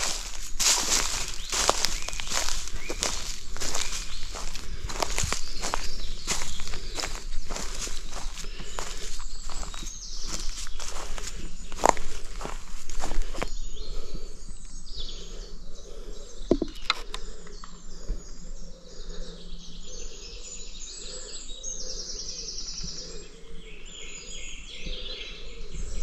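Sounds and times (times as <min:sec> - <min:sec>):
woodland birds singing: 0:00.0 - 0:26.0.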